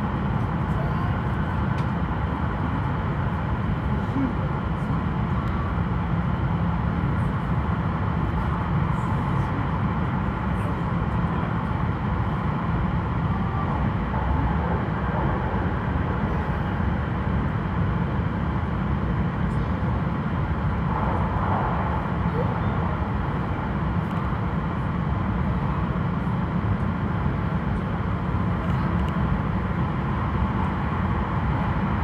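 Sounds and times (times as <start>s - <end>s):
train running rumble: 0.0s - 32.0s.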